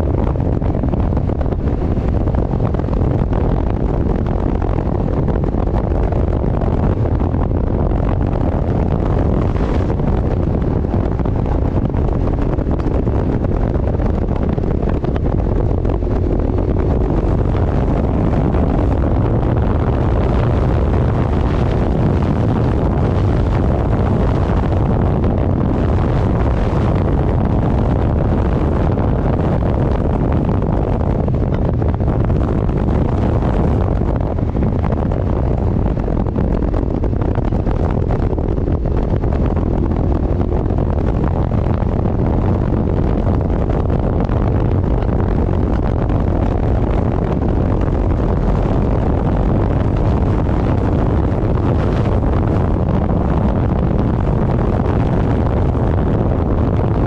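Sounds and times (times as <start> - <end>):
vehicle engine running: 0.0 - 57.0
wind rushing on microphone: 0.0 - 57.0.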